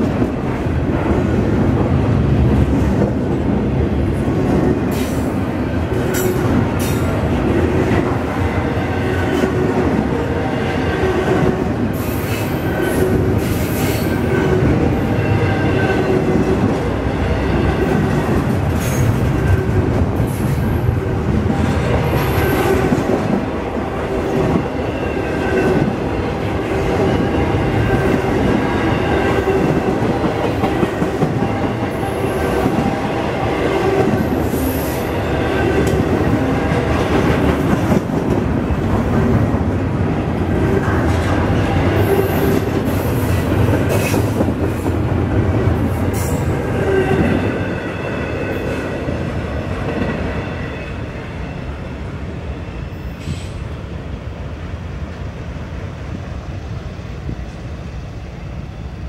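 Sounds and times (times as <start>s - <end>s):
rhythmic rail clicking: 0.0s - 50.4s
train wheels rumbling on rail: 0.0s - 59.0s.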